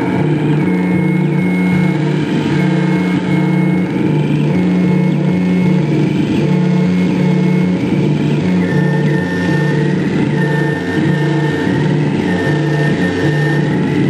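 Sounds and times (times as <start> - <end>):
buzzing electronic drone: 0.0 - 14.0
thin high whine: 0.0 - 14.0.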